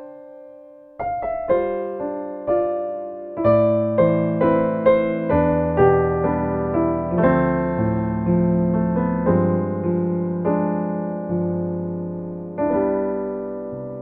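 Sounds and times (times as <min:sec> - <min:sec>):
solo piano ballad: 0:00.0 - 0:14.0.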